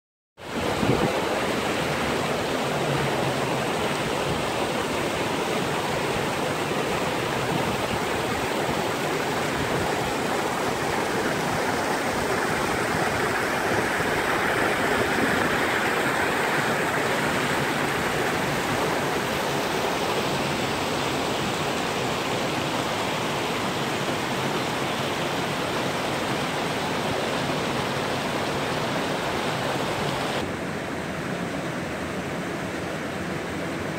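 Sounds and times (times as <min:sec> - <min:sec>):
creek rushing over rocks: 0:00.4 - 0:33.9.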